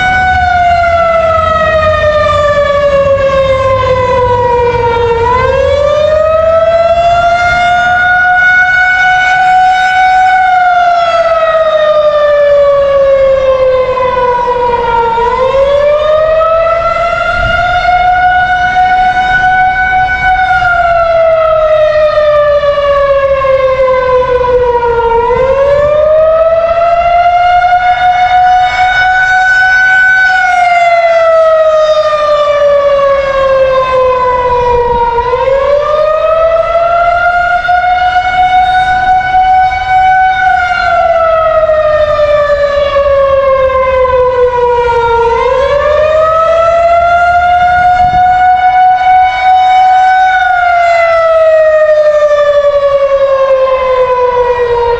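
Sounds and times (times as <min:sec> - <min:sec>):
outdoor warning siren wailing: 0:00.0 - 0:54.9.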